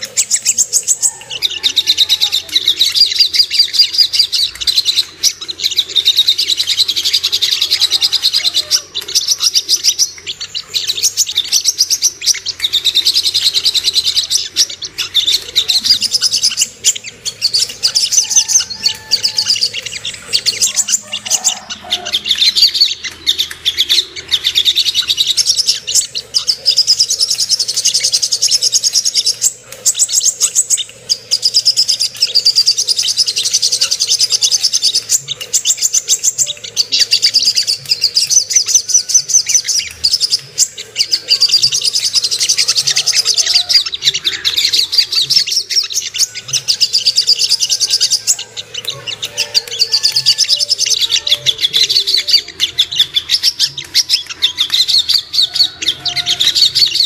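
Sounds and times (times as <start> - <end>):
bird chirping trills: 0.0 - 57.0.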